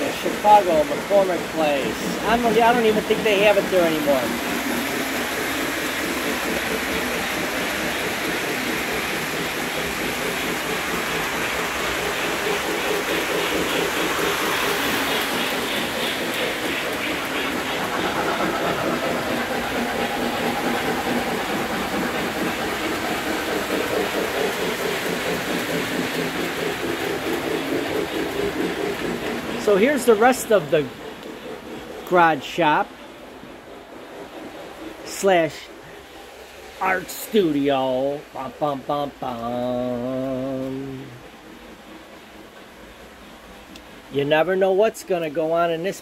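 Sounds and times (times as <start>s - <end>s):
model train motor hum: 0.0s - 44.4s
wheels on track: 0.0s - 46.0s.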